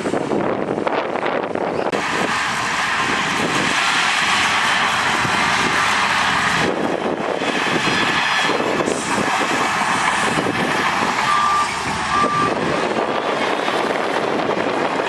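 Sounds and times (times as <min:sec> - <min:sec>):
heavy machinery engine drone: 0:00.0 - 0:15.0.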